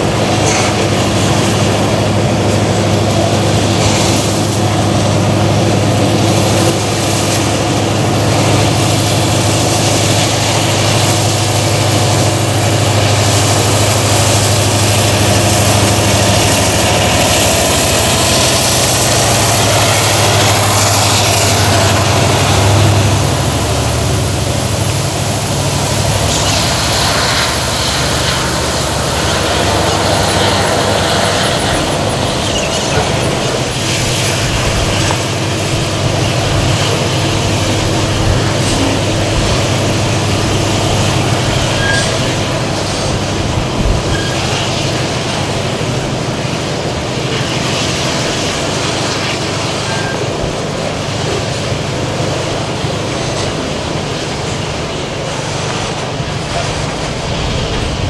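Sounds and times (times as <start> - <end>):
locomotive engine drone: 0.0 - 58.0
wagons rumbling on rails: 0.0 - 58.0.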